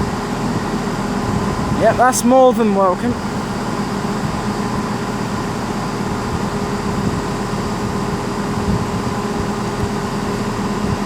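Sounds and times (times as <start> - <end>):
train engines humming: 0.0 - 11.0.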